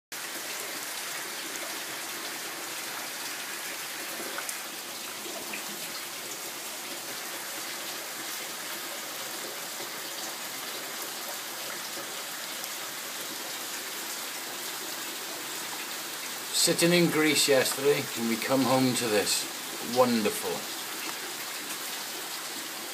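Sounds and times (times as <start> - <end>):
steady rain falling: 0.1 - 22.9.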